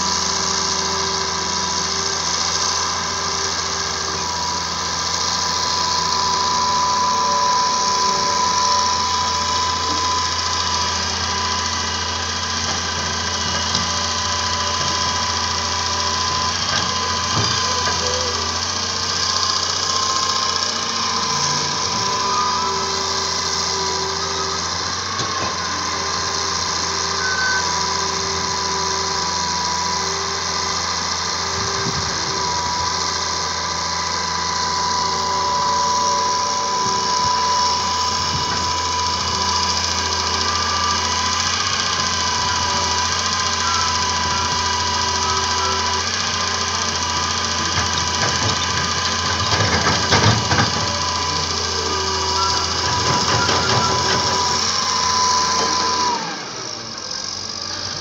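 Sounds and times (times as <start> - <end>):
high whine: 0.0 - 47.1
excavator diesel engine running: 0.0 - 58.0.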